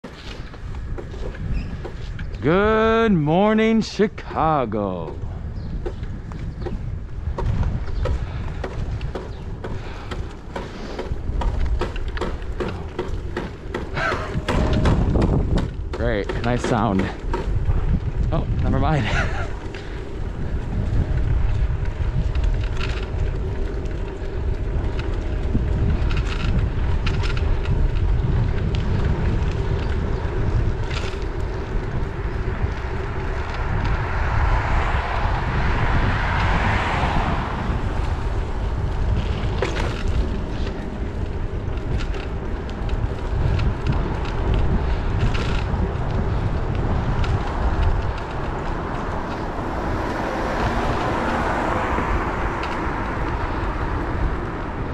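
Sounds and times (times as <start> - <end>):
wind buffeting microphone: 0.0 - 54.9
vehicle passing: 4.6 - 54.9.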